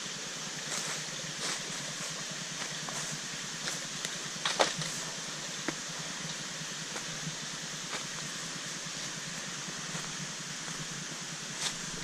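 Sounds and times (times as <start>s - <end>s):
waterfall hiss: 0.0s - 12.0s
footsteps crunching on dry leaves: 0.6s - 12.0s.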